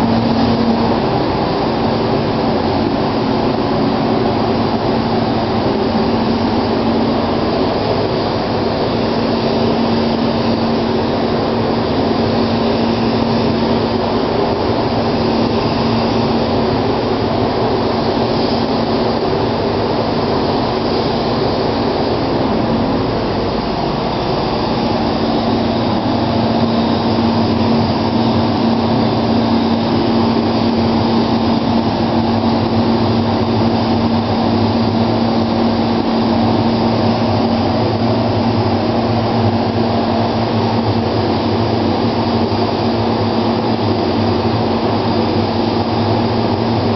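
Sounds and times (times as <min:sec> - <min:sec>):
ventilation hum: 0:00.0 - 0:46.9
spray gun air hissing: 0:05.4 - 0:46.1.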